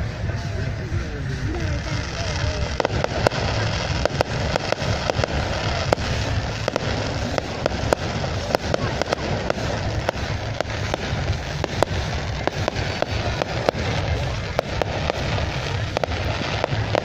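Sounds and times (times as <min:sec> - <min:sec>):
fireworks bangs and cracks: 0:00.0 - 0:17.0
rumbling wash of noise: 0:00.0 - 0:17.0.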